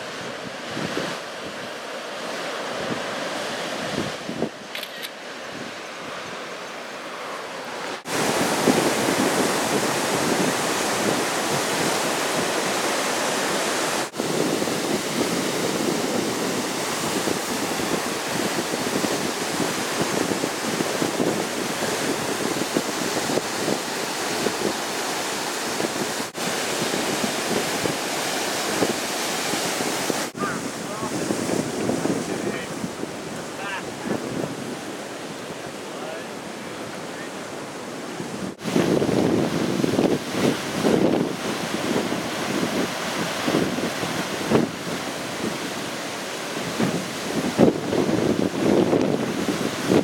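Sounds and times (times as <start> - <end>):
surf breaking on rocky shore: 0.0 - 50.0.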